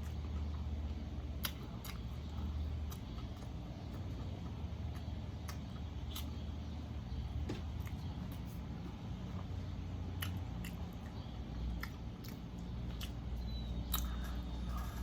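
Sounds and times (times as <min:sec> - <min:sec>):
low steady hum: 0:00.0 - 0:15.0
mouth clicks and crunches: 0:00.0 - 0:15.0
person chewing food: 0:00.0 - 0:15.0.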